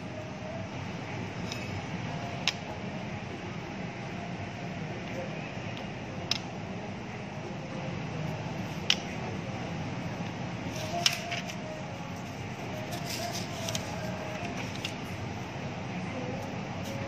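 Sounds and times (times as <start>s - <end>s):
busy office background noise: 0.0s - 17.0s.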